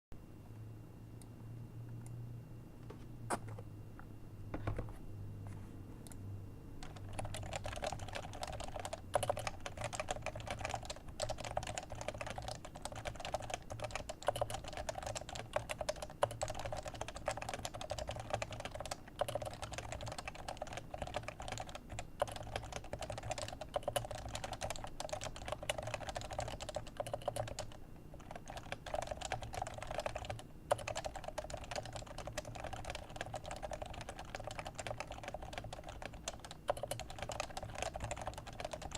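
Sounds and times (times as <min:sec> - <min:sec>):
fast keyboard typing: 0:06.8 - 0:38.9.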